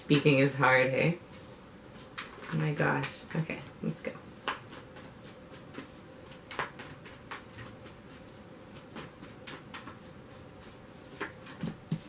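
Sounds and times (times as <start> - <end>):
cards being shuffled by hand: 1.9 - 12.0.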